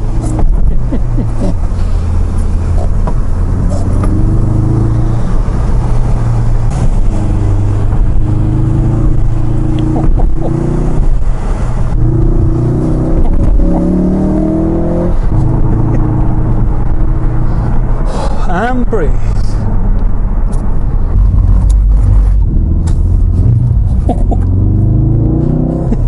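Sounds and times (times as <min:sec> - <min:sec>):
car engine accelerating through gears: 0:00.0 - 0:18.4, 0:19.6 - 0:26.0.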